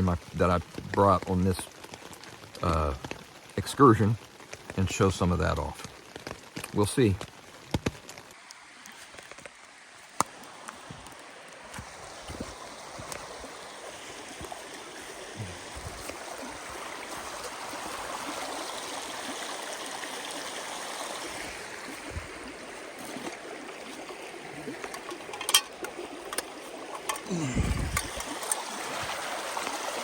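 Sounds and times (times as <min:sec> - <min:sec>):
small stream running: 0:00.0 - 0:30.0.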